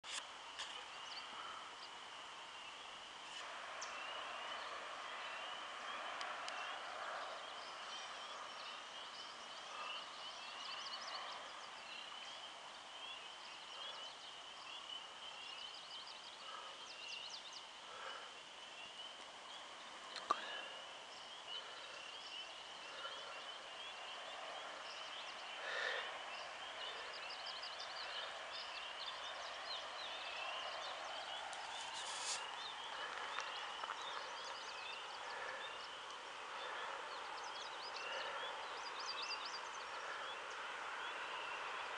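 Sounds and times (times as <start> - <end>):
chorus of chirps: 0.1 - 41.9.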